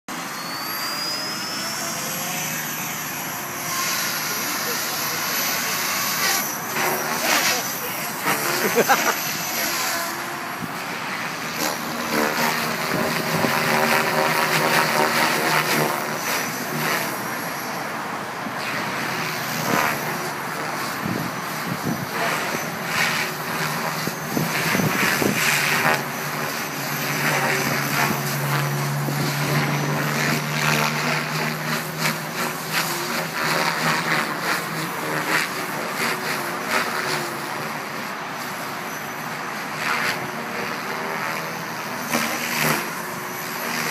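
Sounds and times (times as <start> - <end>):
electric motor whine: 0.1 - 43.9
helicopter rotor blades whirring: 0.1 - 43.9.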